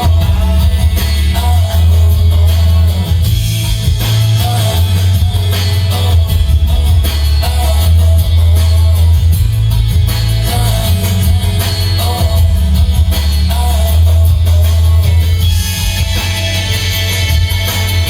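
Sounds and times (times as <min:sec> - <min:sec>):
rock song with heavy bass: 0:00.0 - 0:18.0.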